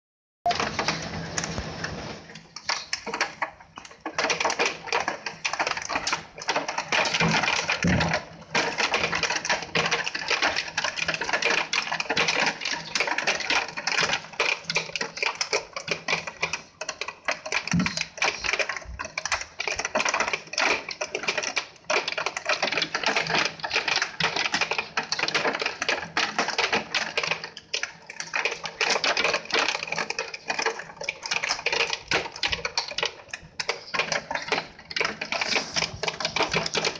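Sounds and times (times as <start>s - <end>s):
hail rattling on a window: 0.5s - 36.9s.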